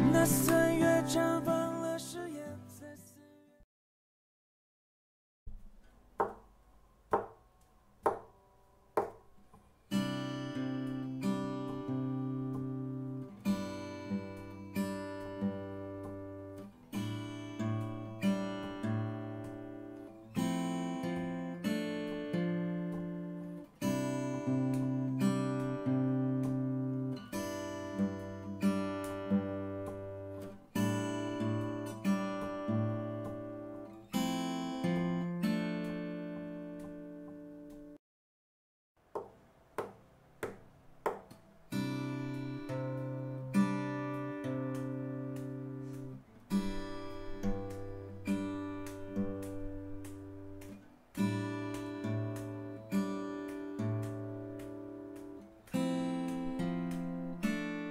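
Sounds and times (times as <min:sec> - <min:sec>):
taps on acoustic guitar: 0:00.0 - 0:01.6, 0:05.5 - 0:06.5, 0:07.1 - 0:07.4, 0:08.0 - 0:08.4, 0:09.0 - 0:09.3, 0:09.9 - 0:38.0, 0:39.1 - 0:57.9
acoustic guitar strummed chords: 0:00.0 - 0:03.3, 0:09.9 - 0:38.0, 0:39.8 - 0:57.9.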